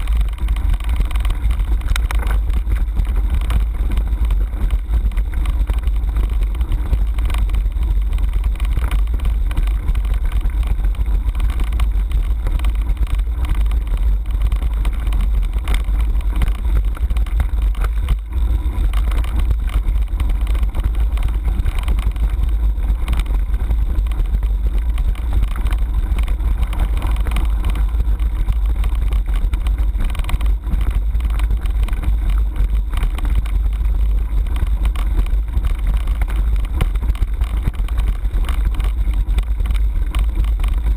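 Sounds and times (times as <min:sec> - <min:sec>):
bike tyres rattling over stones: 0:00.0 - 0:40.9.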